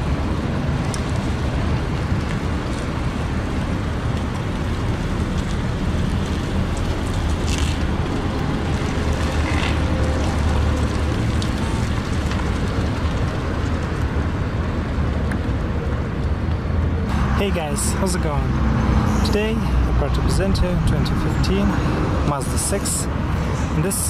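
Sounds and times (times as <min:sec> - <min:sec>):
car rumble and hiss: 0:00.0 - 0:24.0.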